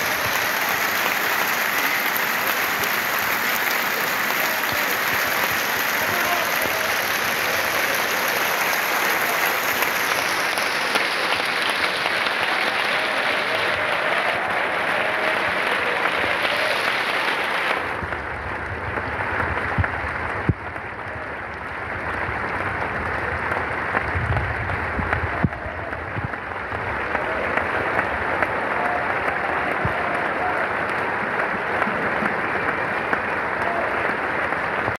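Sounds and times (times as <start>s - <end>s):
audience applauding: 0.0s - 34.9s.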